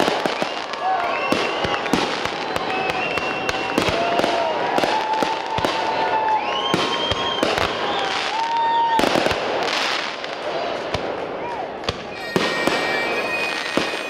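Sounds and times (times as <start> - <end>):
fireworks whistles: 0.0 - 10.1, 11.9 - 14.0
fireworks bangs and crackling: 0.0 - 14.0.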